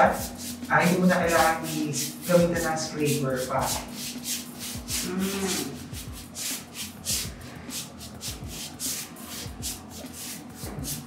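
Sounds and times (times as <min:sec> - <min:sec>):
paintbrush swishing on wall: 0:00.0 - 0:11.0.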